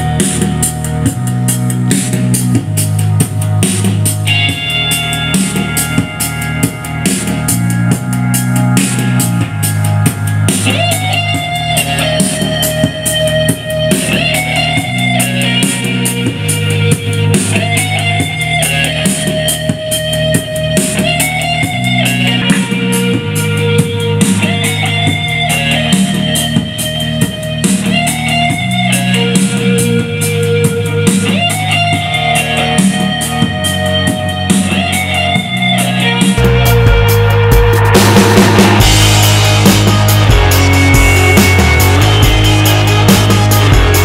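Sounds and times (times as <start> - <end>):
rock music: 0.0 - 44.0.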